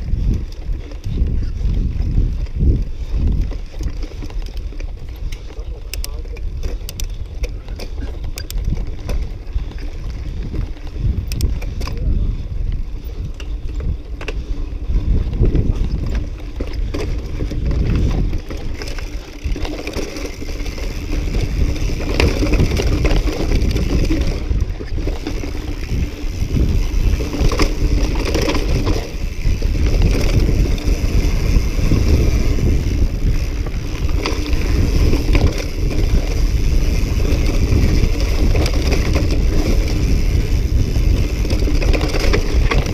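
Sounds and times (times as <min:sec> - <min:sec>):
bike clattering over stones: 0:00.0 - 0:12.0, 0:13.3 - 0:42.9
wind rumble on microphone: 0:00.0 - 0:42.9.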